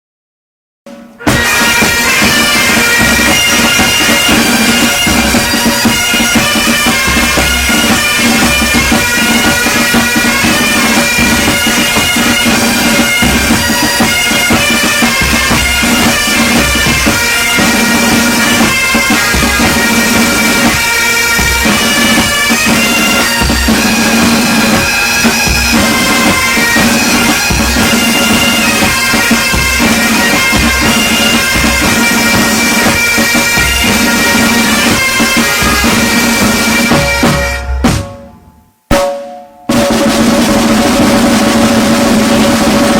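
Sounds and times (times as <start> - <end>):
bagpipes playing tune over drone: 1.2 - 37.8.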